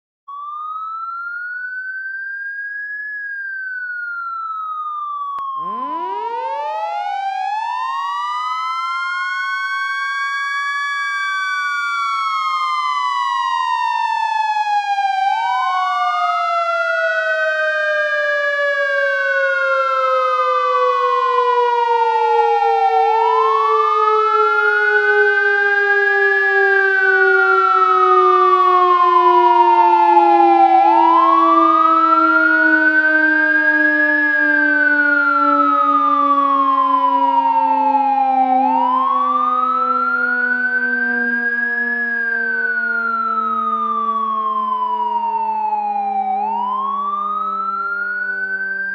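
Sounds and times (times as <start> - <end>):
fire truck siren wailing: 0.3 - 48.9
lower siren tone: 0.3 - 48.9.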